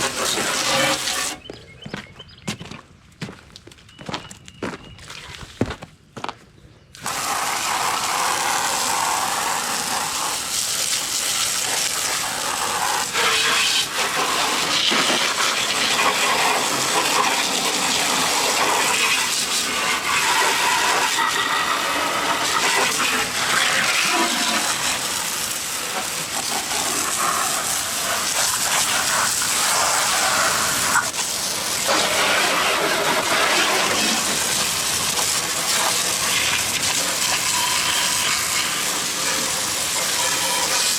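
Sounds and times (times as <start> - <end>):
water spraying from a hose: 0.0 - 1.5, 7.0 - 40.9.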